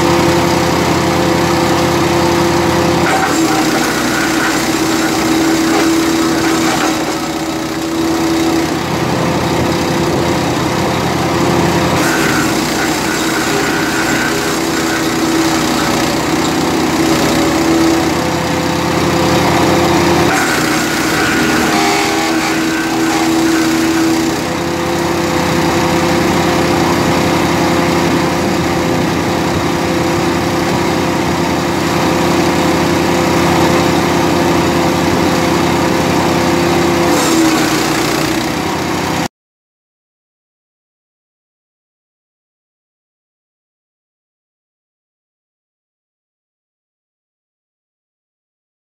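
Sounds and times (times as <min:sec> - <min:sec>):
chipper shredder engine running: 0:00.0 - 0:39.3.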